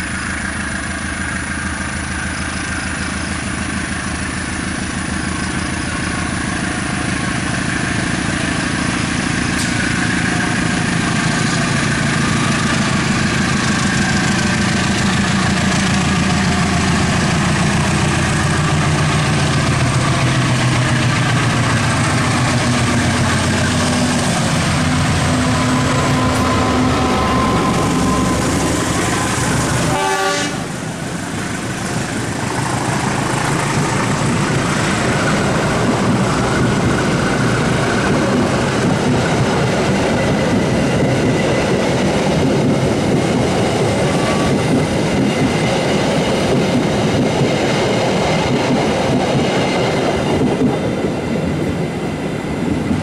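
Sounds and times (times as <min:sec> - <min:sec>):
diesel locomotive engine: 0:00.0 - 0:53.0
train wheels clickety-clack: 0:00.0 - 0:53.0.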